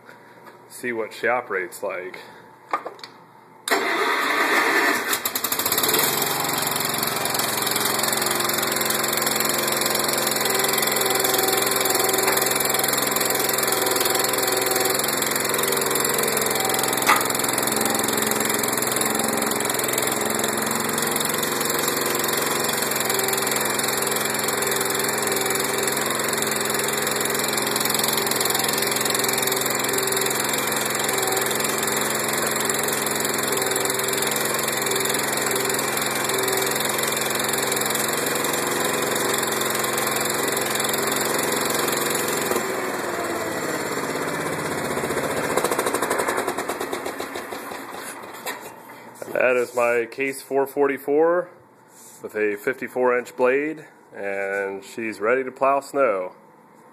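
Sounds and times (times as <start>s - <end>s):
small engine starting and running: 3.7s - 49.8s.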